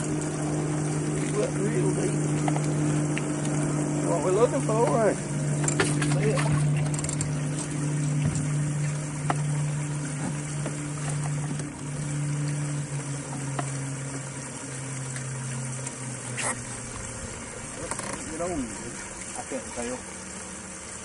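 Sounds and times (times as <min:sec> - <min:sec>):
small electric motor humming: 0:00.0 - 0:21.0.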